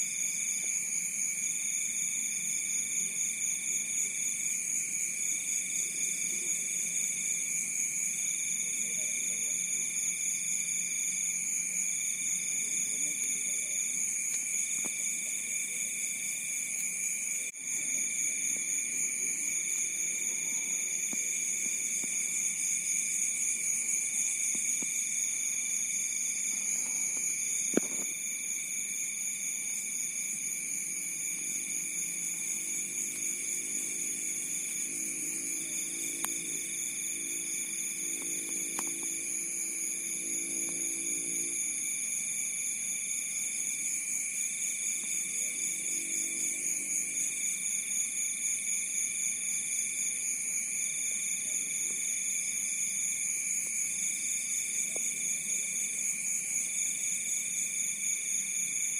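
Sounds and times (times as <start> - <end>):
insect trilling: 0.0 - 48.6
crickets chirping: 0.0 - 58.9.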